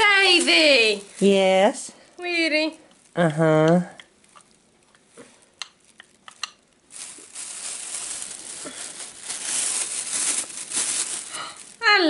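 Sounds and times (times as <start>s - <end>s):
packaging rustling and crinkling: 0.0s - 2.5s, 4.2s - 12.0s.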